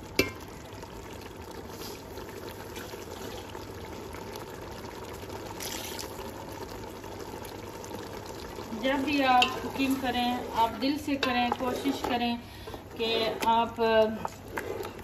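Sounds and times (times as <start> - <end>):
bubbling sizzle in a pot: 0.0 - 15.0.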